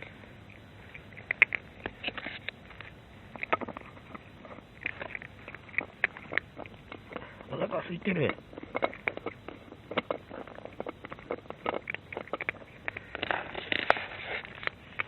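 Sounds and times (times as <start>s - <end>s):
cat crunching dry food: 0.0s - 15.0s.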